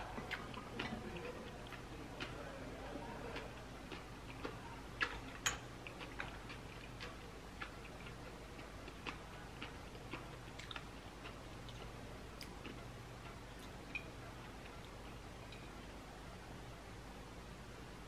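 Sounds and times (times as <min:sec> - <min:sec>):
person chewing: 0:00.0 - 0:16.0
low steady hum: 0:00.0 - 0:18.0.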